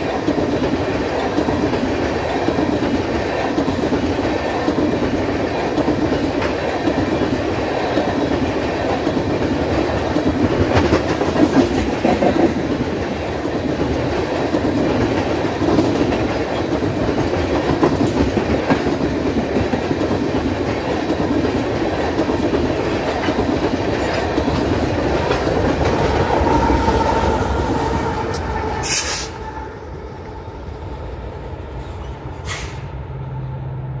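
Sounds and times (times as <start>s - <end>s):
freight train wheels clattering: 0.0s - 29.4s.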